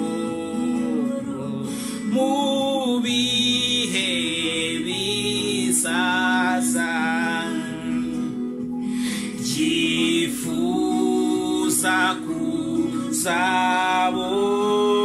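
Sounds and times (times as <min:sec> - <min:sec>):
man singing worship song: 0:00.0 - 0:08.4, 0:09.0 - 0:15.0.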